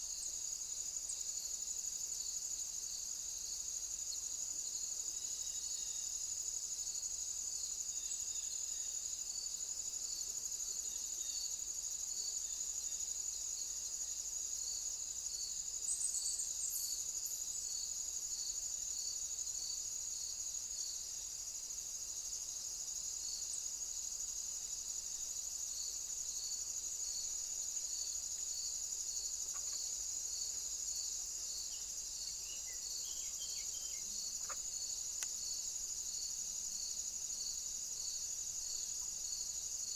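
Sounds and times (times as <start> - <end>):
insects buzzing: 0.0 - 39.9
low pulsing insect call: 0.0 - 39.9.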